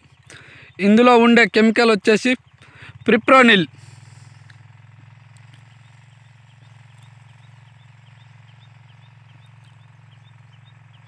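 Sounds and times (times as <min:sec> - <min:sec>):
low engine hum with flutter: 0:00.0 - 0:11.0.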